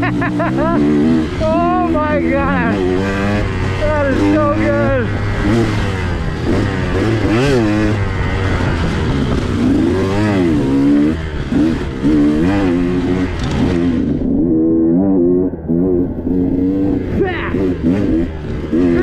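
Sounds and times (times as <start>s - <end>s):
two-stroke motorbike engine revving: 0.0s - 19.0s.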